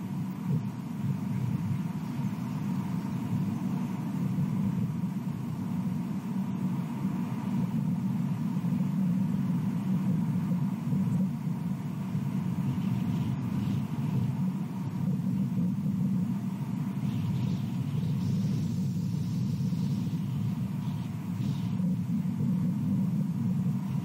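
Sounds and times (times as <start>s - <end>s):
faint thin steady tone: 0.0s - 24.0s
steady low rumble: 0.0s - 24.0s.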